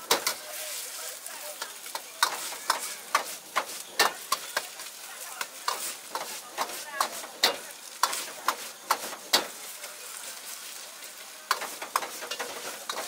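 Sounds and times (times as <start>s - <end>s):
ladle scraping and knocking wok: 0.0s - 9.8s, 11.4s - 13.0s
rice sizzling in a wok: 0.0s - 13.0s.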